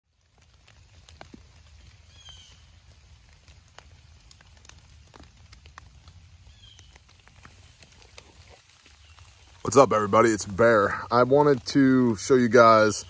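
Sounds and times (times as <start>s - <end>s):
drips on leaves: 0.1s - 13.0s.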